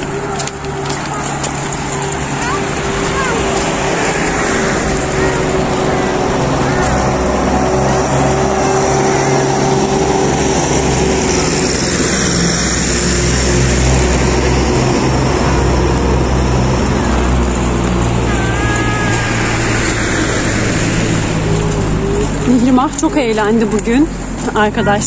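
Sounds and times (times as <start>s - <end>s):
car traffic on road: 0.0s - 25.0s.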